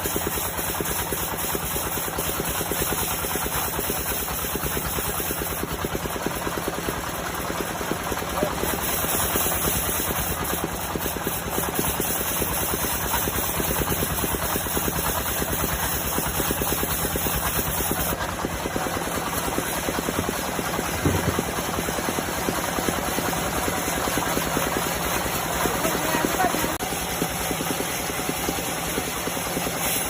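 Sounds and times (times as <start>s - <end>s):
band sawmill throbbing: 0.0s - 30.0s.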